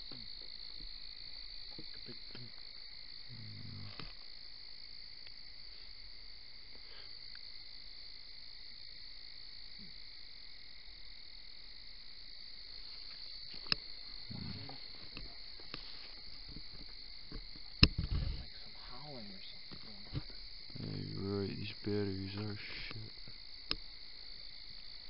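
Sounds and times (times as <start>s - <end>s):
insects and frogs trilling: 0.0s - 25.0s.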